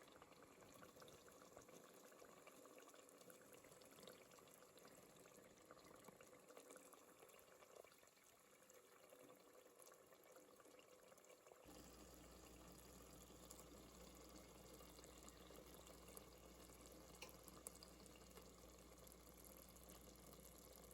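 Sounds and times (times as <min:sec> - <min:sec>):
faint liquid sounds: 0:00.0 - 0:20.9.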